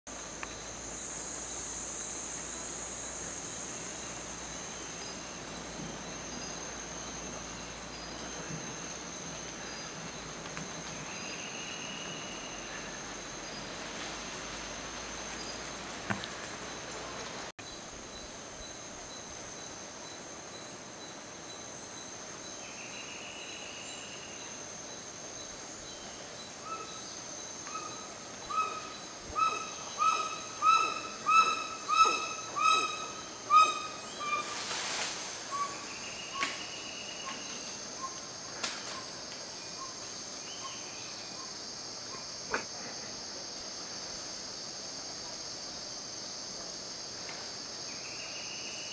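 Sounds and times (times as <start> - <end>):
high insect drone: 0.1 - 48.9.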